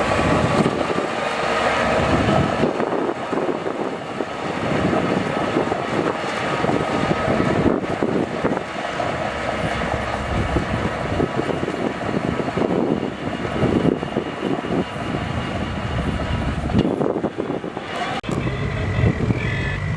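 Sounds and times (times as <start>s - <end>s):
steel tracks clattering: 0.0s - 19.1s
diesel engine under load: 0.0s - 19.9s.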